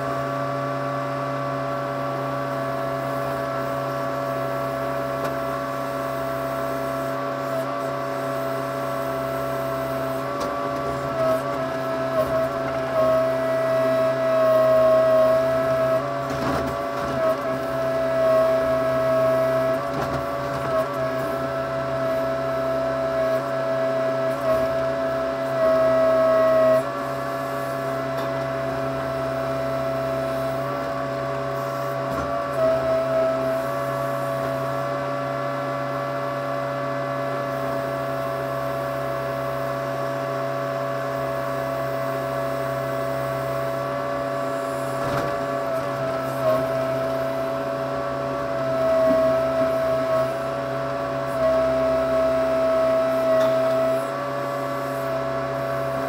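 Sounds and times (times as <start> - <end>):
backhoe engine and hydraulics running: 0.0 - 56.0.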